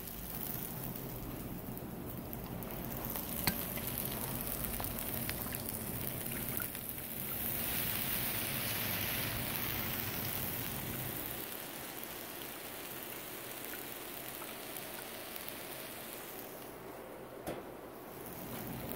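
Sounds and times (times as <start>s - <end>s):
food sizzling on a griddle: 0.0s - 16.8s, 18.1s - 18.9s.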